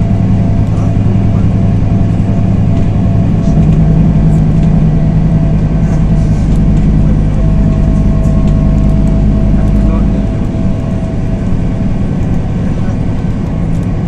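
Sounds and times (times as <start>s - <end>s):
bus diesel engine running: 0.0s - 14.0s
faint steady whine: 0.0s - 14.0s.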